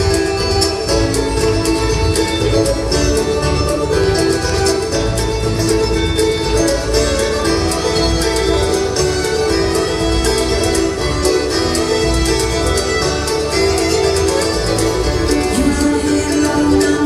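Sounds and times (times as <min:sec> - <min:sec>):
acoustic guitar: 0:00.0 - 0:17.0
banjos picking fast rolls: 0:00.0 - 0:17.0
fiddle: 0:00.0 - 0:17.0
mandolin: 0:00.0 - 0:17.0
upright bass: 0:00.0 - 0:17.0.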